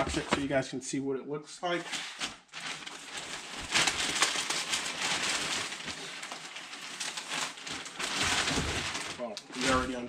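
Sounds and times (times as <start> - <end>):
plastic packaging crinkling: 1.8 - 10.0.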